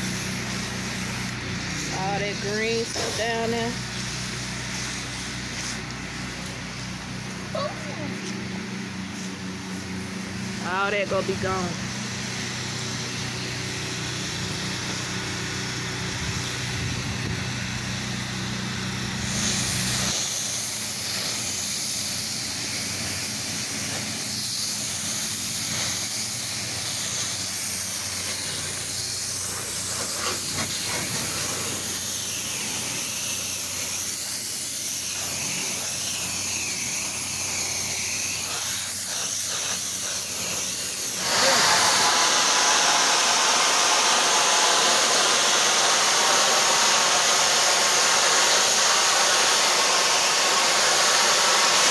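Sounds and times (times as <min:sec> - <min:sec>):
engine humming low: 0:00.0 - 0:44.3
pressure washer spray hissing: 0:00.0 - 0:51.9.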